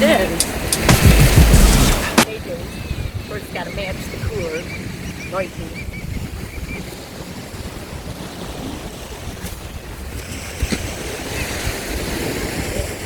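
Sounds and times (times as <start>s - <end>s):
waves washing ashore: 0.0s - 13.0s
wind rumbling on microphone: 0.0s - 13.0s.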